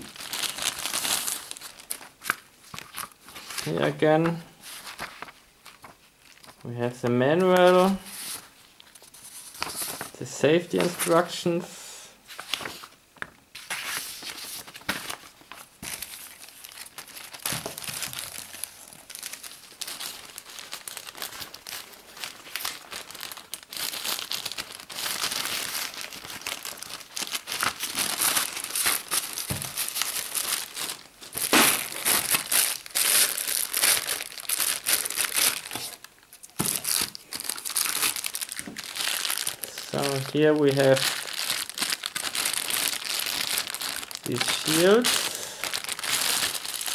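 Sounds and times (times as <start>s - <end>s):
plastic bags crinkling: 0.0s - 11.4s, 12.4s - 46.9s.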